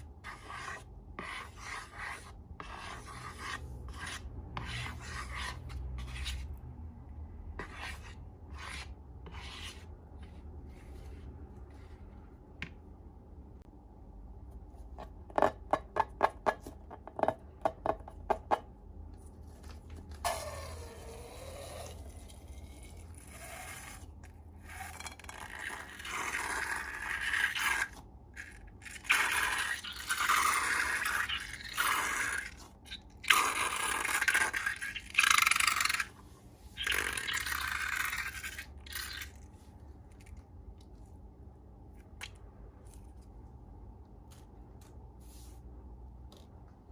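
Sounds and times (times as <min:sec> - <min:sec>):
slime scraping and stirring: 0:00.0 - 0:06.7, 0:07.5 - 0:12.4, 0:19.2 - 0:46.6.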